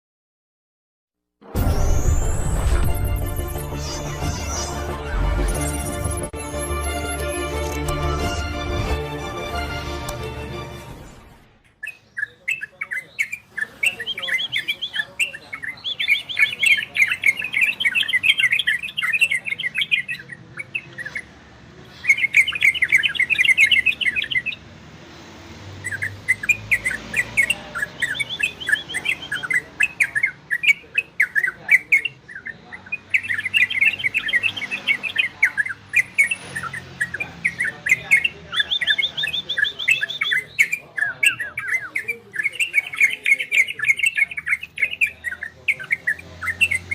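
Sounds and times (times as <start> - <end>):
bulbul chattering trills: 1.6 - 8.2, 11.7 - 24.6, 25.8 - 46.9.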